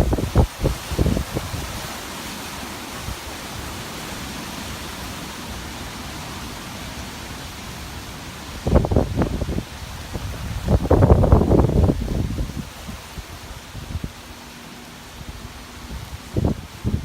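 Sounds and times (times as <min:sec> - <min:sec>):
rushing hurricane wind: 0:00.0 - 0:17.0.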